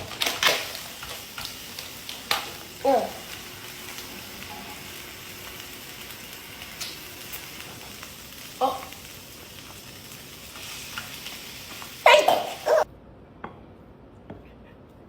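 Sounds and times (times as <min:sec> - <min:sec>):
food sizzling in a pan: 0:00.0 - 0:12.9.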